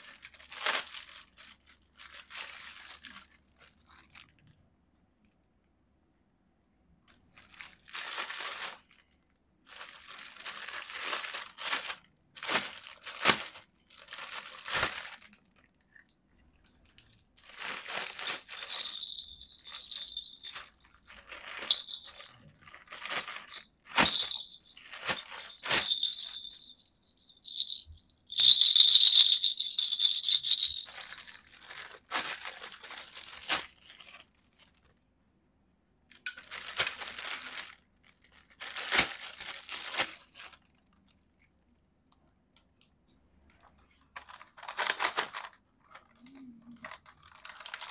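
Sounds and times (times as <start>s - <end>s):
plastic packaging crinkling: 0.0s - 4.5s, 7.1s - 16.0s, 16.6s - 35.0s, 36.2s - 41.5s, 44.0s - 47.9s.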